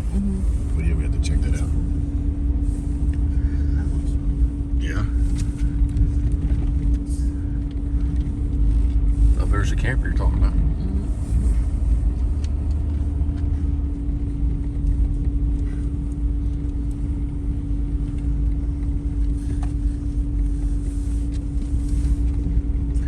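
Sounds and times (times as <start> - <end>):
car cabin road rumble: 0.0 - 23.0
constant hum: 0.0 - 23.0.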